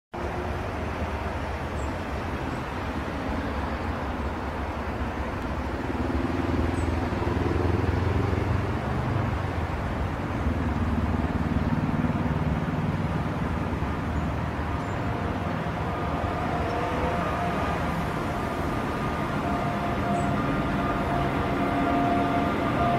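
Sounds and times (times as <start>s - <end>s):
traffic rumble: 0.1s - 22.9s
faint locomotive whine: 0.2s - 22.9s.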